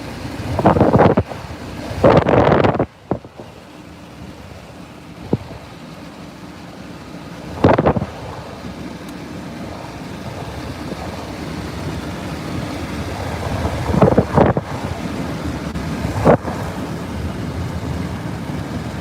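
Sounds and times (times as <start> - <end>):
wind gusts buffeting microphone: 0.0 - 6.0, 7.3 - 19.0
storm wind: 0.0 - 6.1, 6.9 - 19.0.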